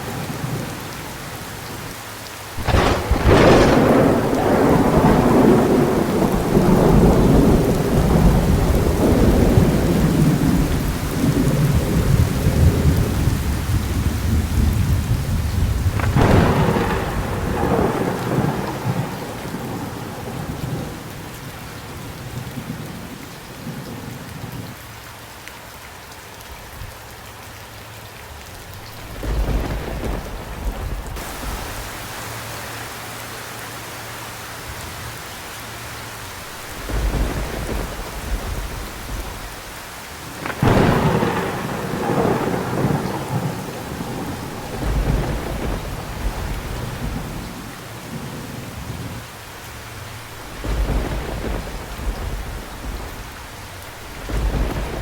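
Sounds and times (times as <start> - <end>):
thunder crack and rumble: 0.0 - 24.8, 28.8 - 32.2, 36.2 - 55.0
heavy rain: 0.0 - 55.0.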